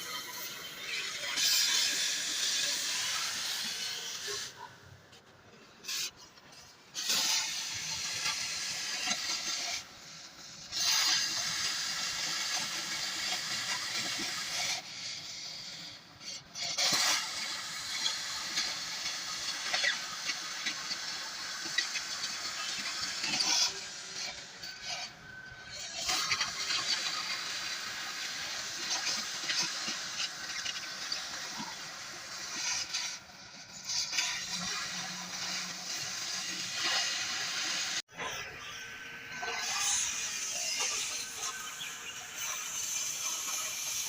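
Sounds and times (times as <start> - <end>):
welding arc hissing and crackling: 0.0 - 44.0.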